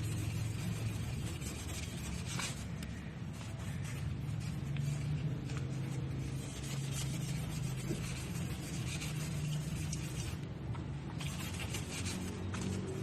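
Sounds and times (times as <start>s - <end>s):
abrasive scratching on surface: 0.0s - 13.0s.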